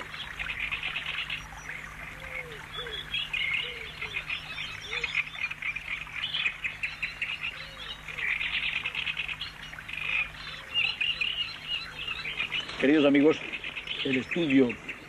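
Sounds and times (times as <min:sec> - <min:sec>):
low soft bird call: 0:00.0 - 0:15.0
songbirds chirping and trilling: 0:00.0 - 0:15.0.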